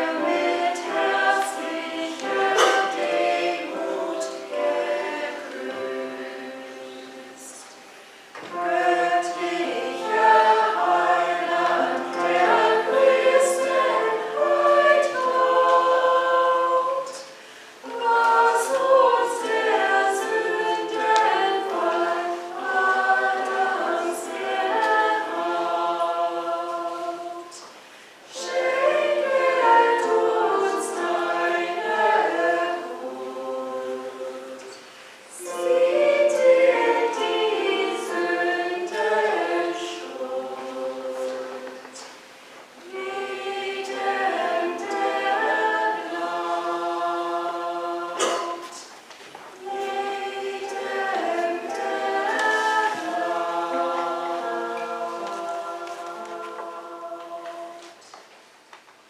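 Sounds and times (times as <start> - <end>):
church choir singing: 0.0 - 58.3.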